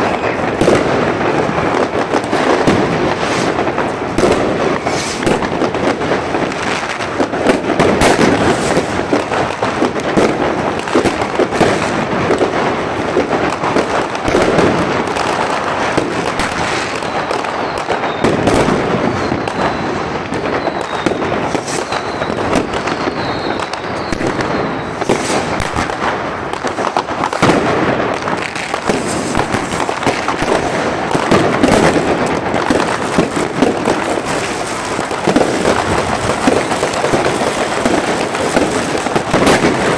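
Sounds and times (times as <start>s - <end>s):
faint firework whistles: 0.0s - 11.9s, 13.8s - 27.7s, 28.4s - 39.9s
fireworks crackling and banging: 0.0s - 39.9s.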